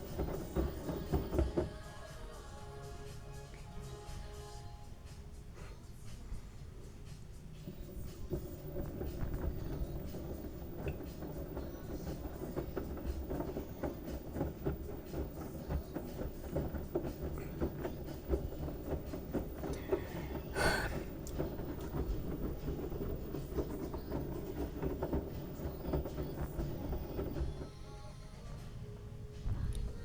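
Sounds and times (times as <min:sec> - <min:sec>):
washing machine rumble: 0:00.0 - 0:30.0.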